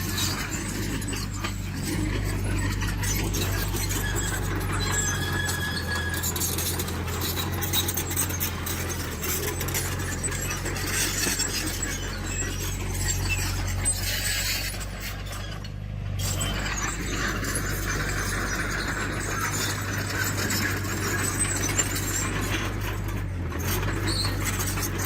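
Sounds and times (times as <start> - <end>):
diesel engine running: 0.0 - 25.0
metallic squeaks and clinks: 0.0 - 25.0.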